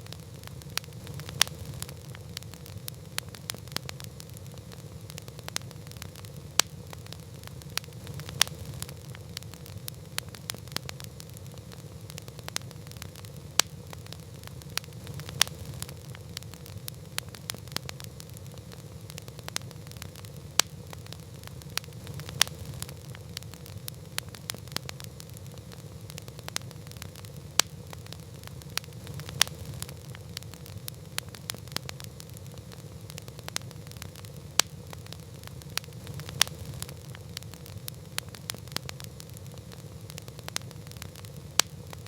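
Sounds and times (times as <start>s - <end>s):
campfire crackling: 0.0s - 42.0s
fire popping: 0.0s - 42.0s.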